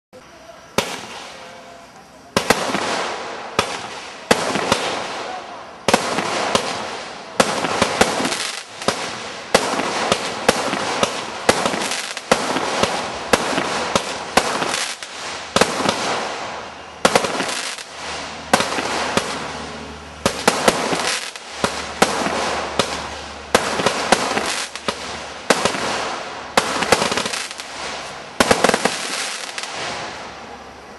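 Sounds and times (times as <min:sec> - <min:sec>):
firework crackling: 0:00.6 - 0:30.9
firework bangs: 0:00.7 - 0:30.6.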